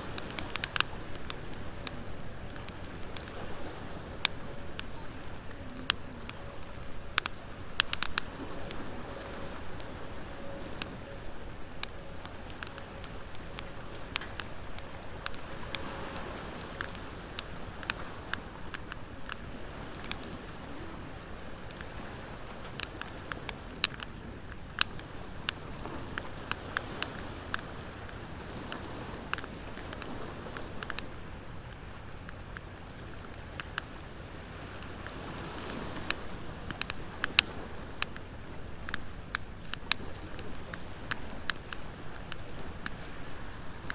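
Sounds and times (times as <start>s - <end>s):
ocean waves: 0.0s - 43.9s
wood bonfire crackling: 0.0s - 43.9s.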